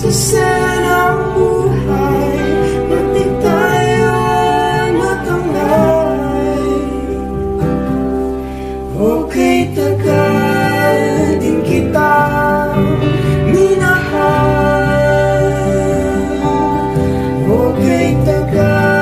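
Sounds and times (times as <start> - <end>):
guitar accompaniment: 0.0 - 19.0
person singing: 0.0 - 19.0.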